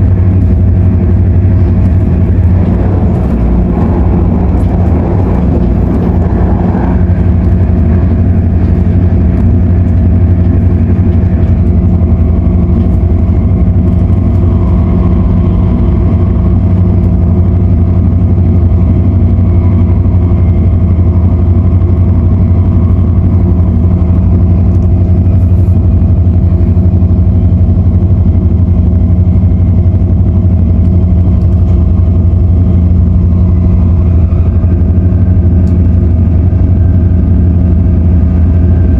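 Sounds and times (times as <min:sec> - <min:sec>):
constant hum: 0:00.0 - 0:38.9
train rumbling at speed: 0:00.0 - 0:38.9.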